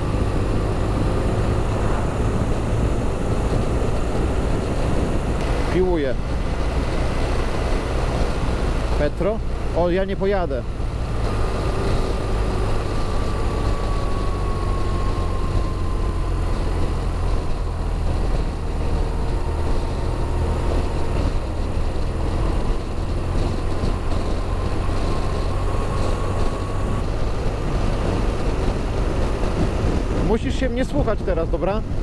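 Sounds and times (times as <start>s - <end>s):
motorcycle engine: 0.0s - 31.0s
wind rush on microphone: 0.0s - 32.0s.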